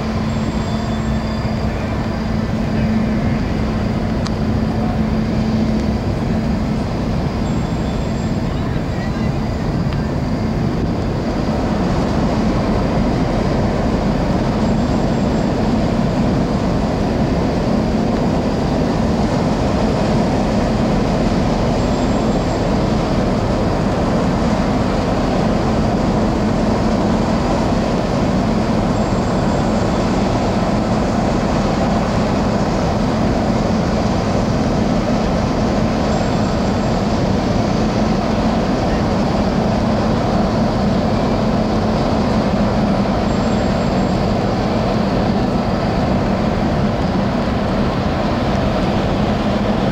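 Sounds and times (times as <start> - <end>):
ship engines droning: 0.0 - 49.9.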